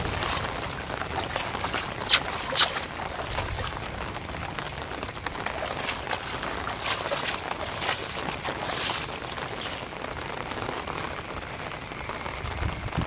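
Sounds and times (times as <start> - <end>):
rain falling on water: 0.0 - 13.0.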